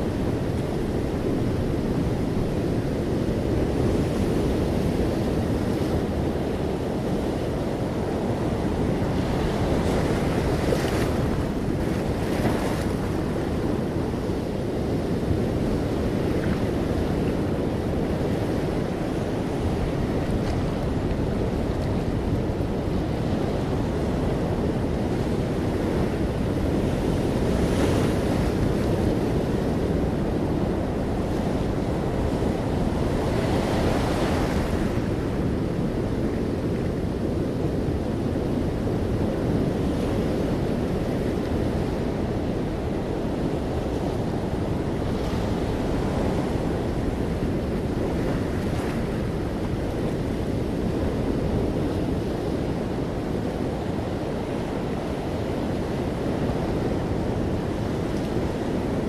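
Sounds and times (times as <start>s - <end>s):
wave breaking wash: 0.0s - 59.0s.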